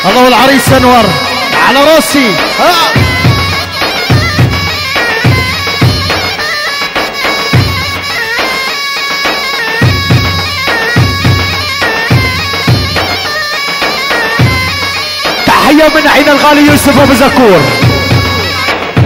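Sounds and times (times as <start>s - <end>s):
heavy drum beat: 0.0s - 19.0s
wind instrument melody: 0.0s - 19.0s.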